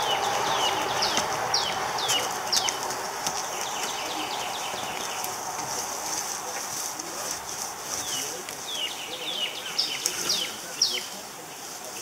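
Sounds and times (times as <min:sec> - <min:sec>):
baby chicks peeping: 0:00.0 - 0:12.0
steady high hiss: 0:00.0 - 0:12.0.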